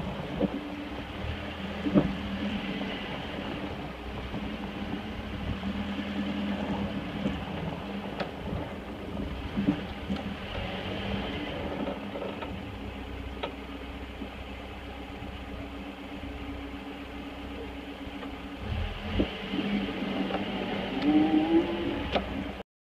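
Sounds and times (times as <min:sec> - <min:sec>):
pickup engine running: 0:00.0 - 0:22.6.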